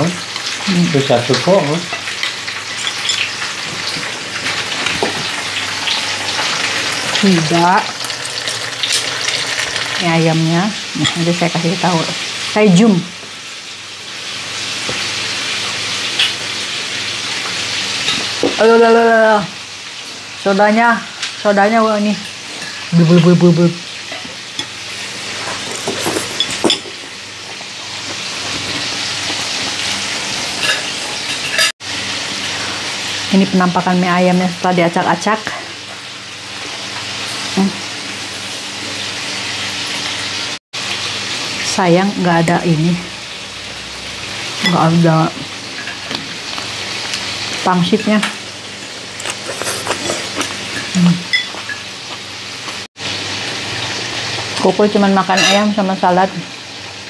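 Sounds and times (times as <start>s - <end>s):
chicken sizzling in a pan: 0.0s - 49.5s, 50.2s - 57.0s.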